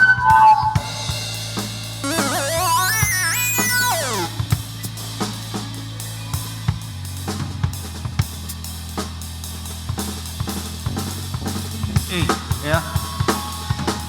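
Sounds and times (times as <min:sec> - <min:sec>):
drum kit improvisation: 0:00.0 - 0:14.0.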